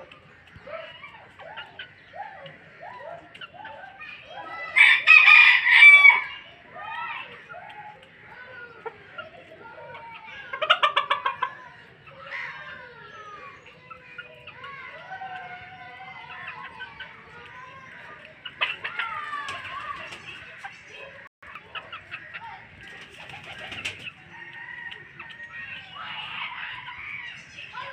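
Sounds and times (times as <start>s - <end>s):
chickens clucking and calling: 0.0s - 27.9s.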